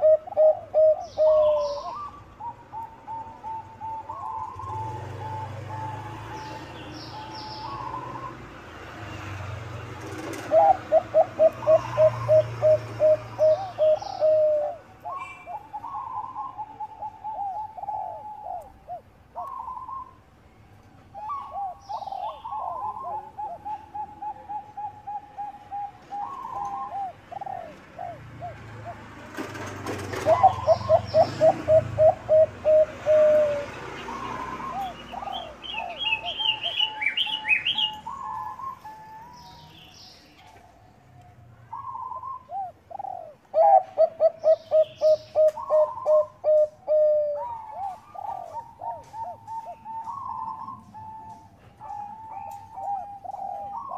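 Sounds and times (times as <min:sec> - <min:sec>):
doves cooing: 0:00.0 - 0:09.3, 0:09.9 - 0:20.3, 0:21.1 - 0:53.9.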